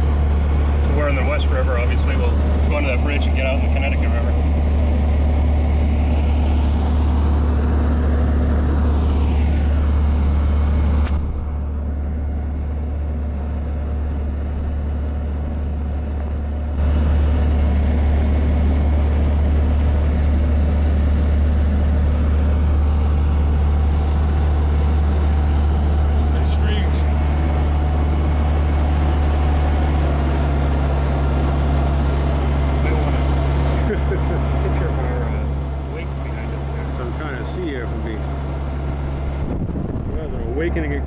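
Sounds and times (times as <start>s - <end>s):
car engine droning: 0.0s - 41.0s.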